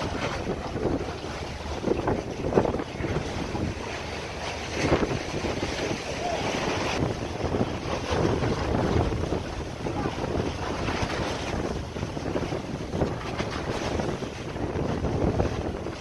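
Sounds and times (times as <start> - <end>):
rough sea: 0.0 - 16.0
wind gusting across microphone: 0.0 - 16.0.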